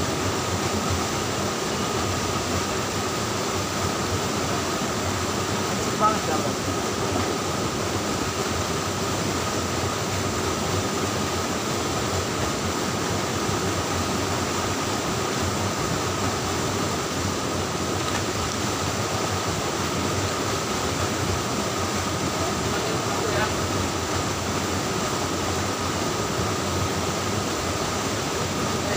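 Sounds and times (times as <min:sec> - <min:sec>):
stream water rushing over rocks: 0:00.0 - 0:28.9.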